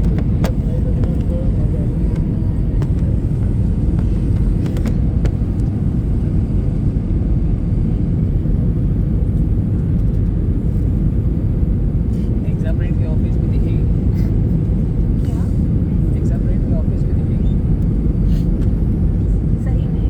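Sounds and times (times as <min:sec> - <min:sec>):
airliner engines rumbling: 0:00.0 - 0:20.0.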